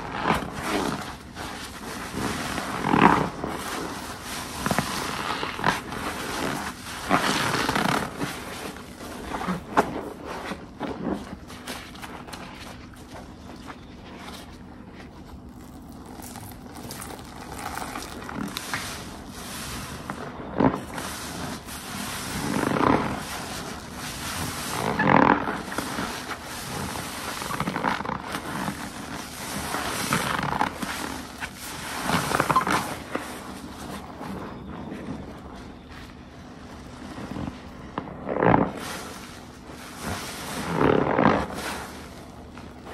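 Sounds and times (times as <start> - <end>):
soapy sponge squelching: 0.0 - 42.9.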